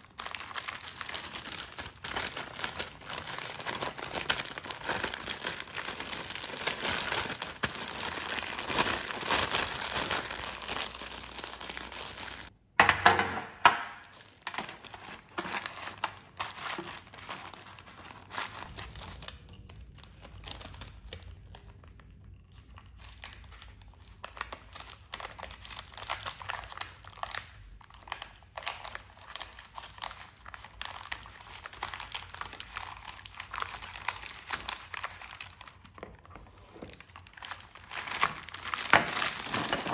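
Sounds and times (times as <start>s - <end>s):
parchment paper crinkling: 0.0s - 12.5s, 14.0s - 39.9s.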